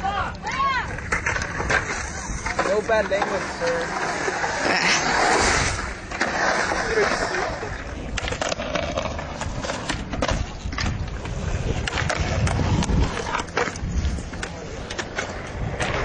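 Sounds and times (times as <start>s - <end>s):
skateboard rolling: 0.0s - 16.0s.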